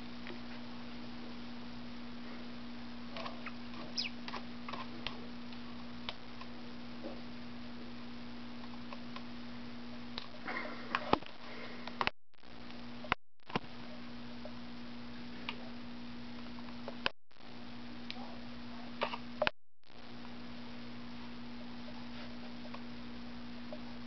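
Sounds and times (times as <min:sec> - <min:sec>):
steady hum and hiss: 0:00.0 - 0:24.0.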